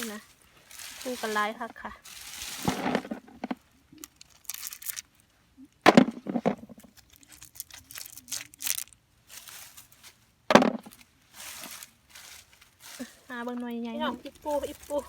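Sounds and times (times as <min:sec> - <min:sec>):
rustling and crinkling: 0:00.0 - 0:15.0.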